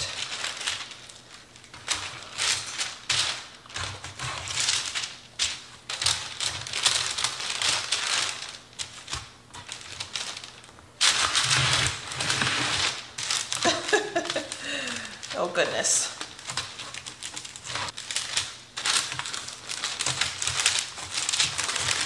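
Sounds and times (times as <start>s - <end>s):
parchment paper crinkling: 0.0s - 22.0s.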